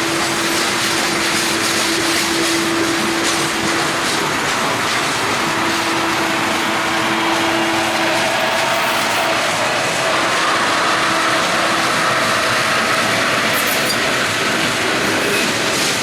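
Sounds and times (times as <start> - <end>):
freight train wheels on rail: 0.0 - 16.0.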